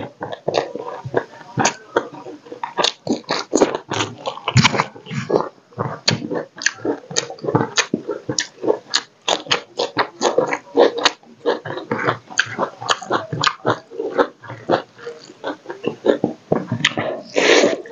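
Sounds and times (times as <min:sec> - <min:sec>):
crunchy chewing: 0:00.0 - 0:17.9.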